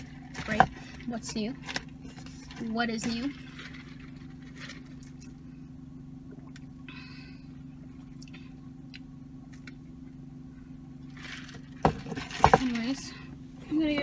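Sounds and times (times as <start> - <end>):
car engine hum inside cabin: 0.0 - 14.0.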